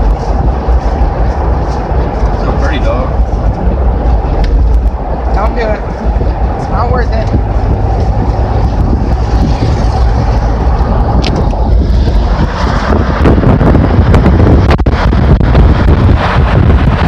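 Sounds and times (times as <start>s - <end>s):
car road and engine noise: 0.0s - 17.0s
wind rushing over microphone: 0.0s - 17.0s.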